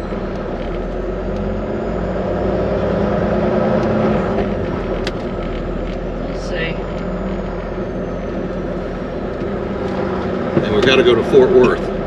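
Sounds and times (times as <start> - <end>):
truck diesel engine hum: 0.0 - 12.0.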